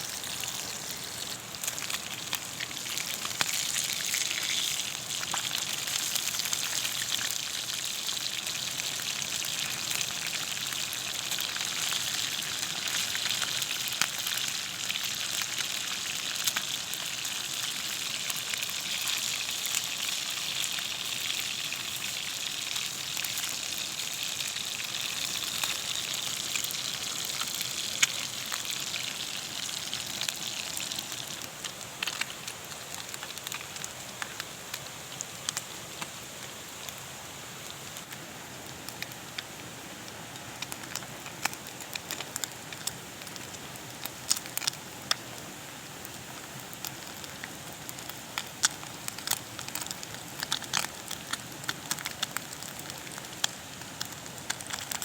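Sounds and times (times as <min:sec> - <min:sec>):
campfire crackling: 0:00.0 - 0:55.0
food sizzling: 0:00.0 - 0:55.0.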